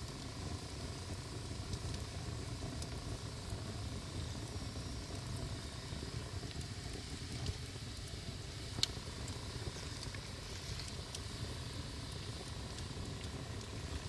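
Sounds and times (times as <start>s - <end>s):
bonfire rumbling and crackling: 0.0s - 14.0s.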